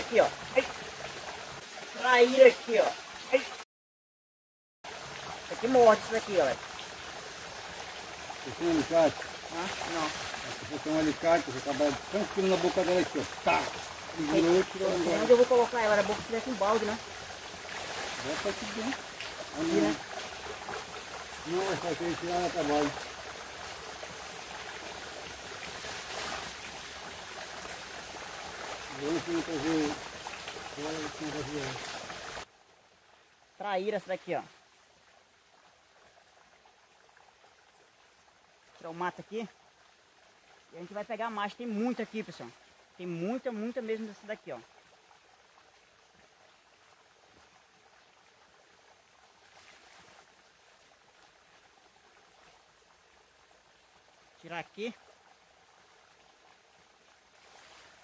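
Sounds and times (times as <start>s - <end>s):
outdoor ambience hiss: 4.9s - 58.0s.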